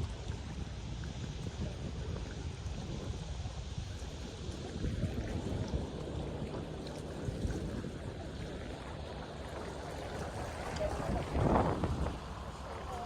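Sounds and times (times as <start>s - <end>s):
rushing rumbling outdoor noise: 0.0s - 13.0s.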